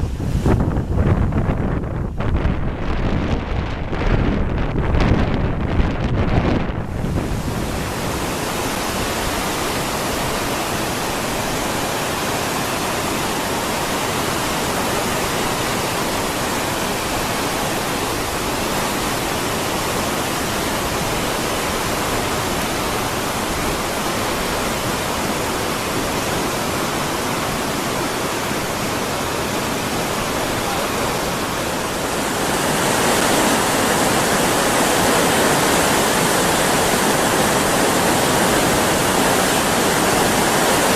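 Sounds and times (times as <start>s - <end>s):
waterfall rushing: 0.0s - 1.3s, 6.8s - 40.9s.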